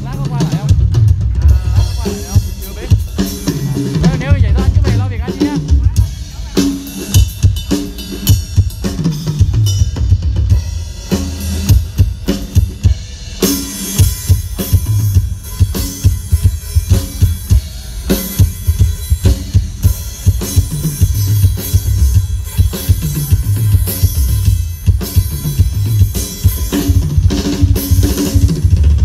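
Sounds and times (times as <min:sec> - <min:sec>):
cymbals: 0:01.4 - 0:28.6.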